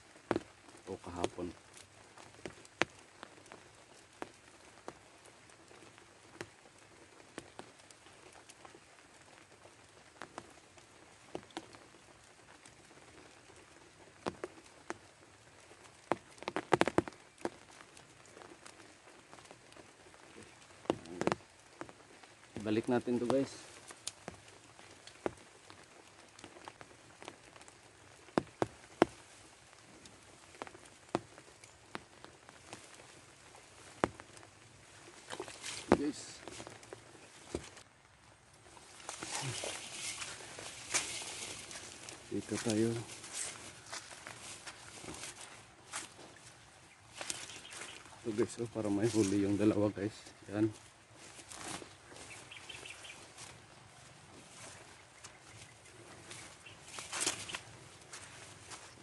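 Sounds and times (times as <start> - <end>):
faint rain hiss: 0.0 - 59.0
grass rustling: 0.0 - 59.0
raindrops ticking: 0.0 - 59.0.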